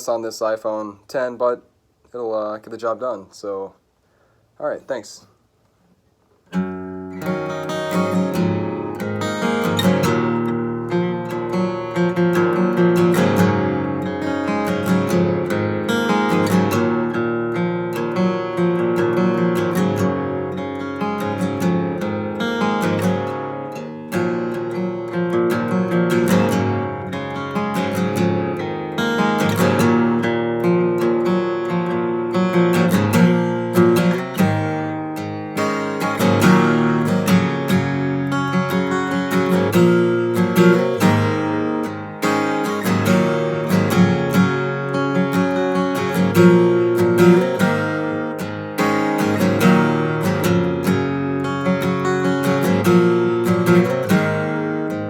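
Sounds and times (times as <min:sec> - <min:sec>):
acoustic guitar strumming: 0:06.4 - 0:55.0.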